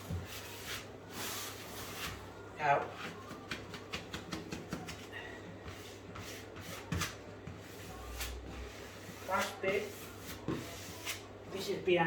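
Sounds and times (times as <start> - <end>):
wallpaper rustling and rubbing: 0.0 - 11.8.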